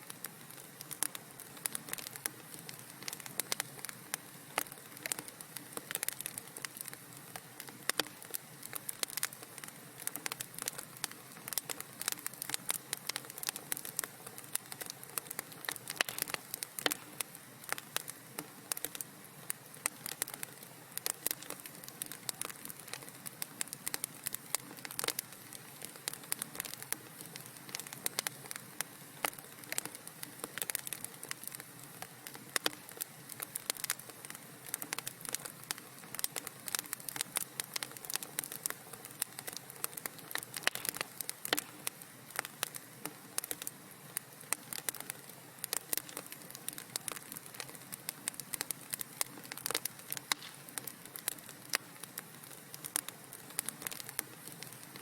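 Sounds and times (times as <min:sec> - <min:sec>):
fire crackling and popping: 0:00.0 - 0:55.0
soft hiss: 0:00.0 - 0:55.0.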